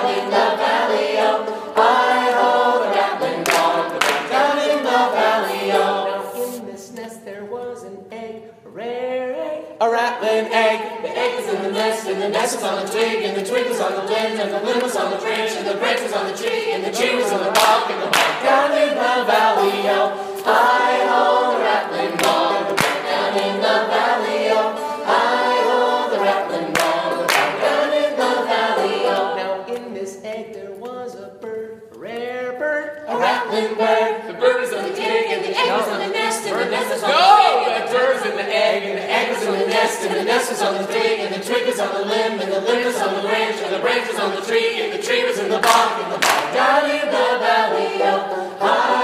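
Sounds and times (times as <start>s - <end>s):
a cappella group singing: 0.0s - 49.0s.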